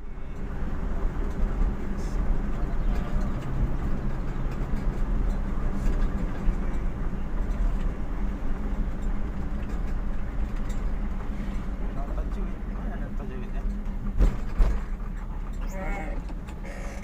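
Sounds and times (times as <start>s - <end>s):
vehicle engine drone: 0.0s - 17.0s
faint rattles and clicks: 2.4s - 17.0s.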